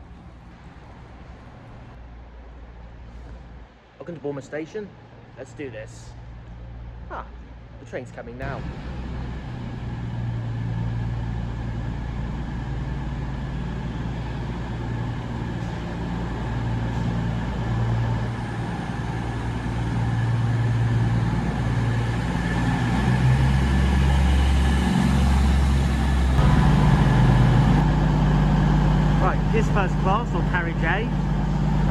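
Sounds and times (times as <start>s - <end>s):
diesel train engine drone: 0.0s - 31.9s.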